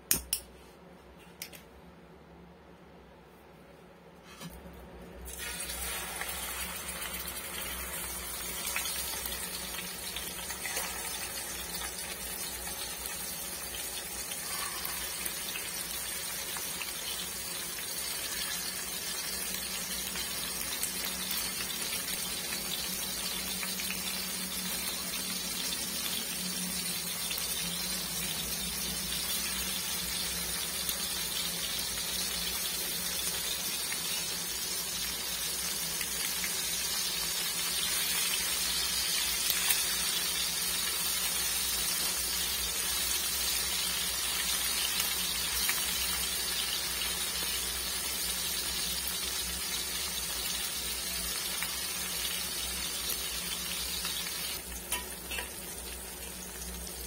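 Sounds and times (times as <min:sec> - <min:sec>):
fish sizzling in hot oil: 0:05.3 - 0:57.0.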